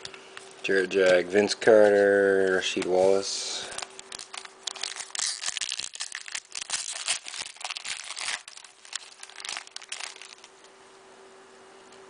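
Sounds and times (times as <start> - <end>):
foil wrapper crinkling: 0.7 - 10.8.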